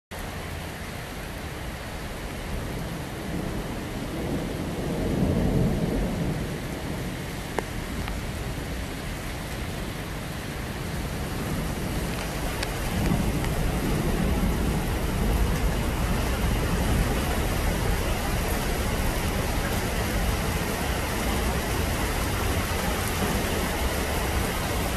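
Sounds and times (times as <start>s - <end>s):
heavy rain falling: 0.1s - 24.9s.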